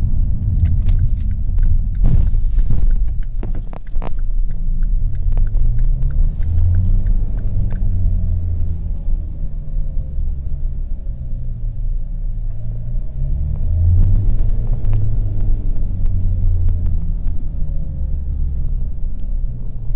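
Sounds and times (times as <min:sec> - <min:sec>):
car engine braking rumble: 0:00.0 - 0:19.9.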